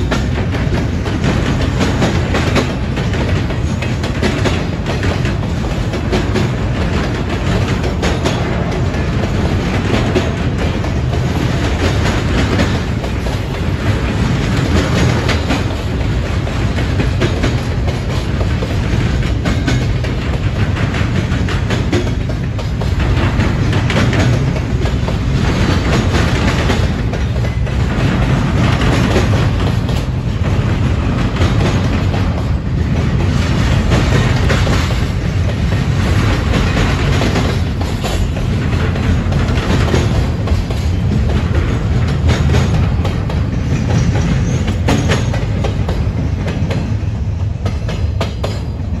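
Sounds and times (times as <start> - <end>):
wheels clacking over rail joints: 0.0 - 47.0
train rumbling past: 0.0 - 49.0.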